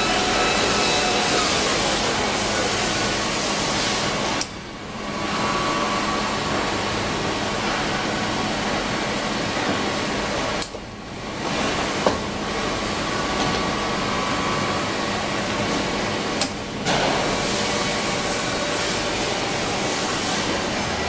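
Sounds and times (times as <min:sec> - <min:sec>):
workshop machinery humming: 0:00.0 - 0:21.0.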